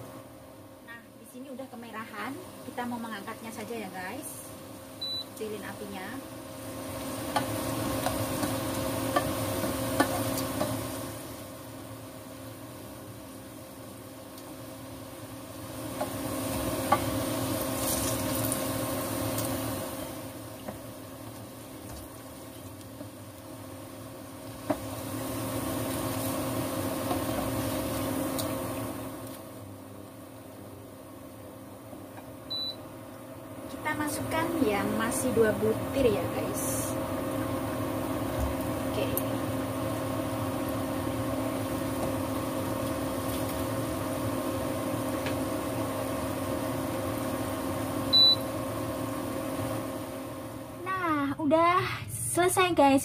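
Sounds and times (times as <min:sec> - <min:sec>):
induction cooker hum: 0:00.0 - 0:53.0
oil bubbling while deep-frying: 0:01.8 - 0:34.8, 0:36.3 - 0:51.2.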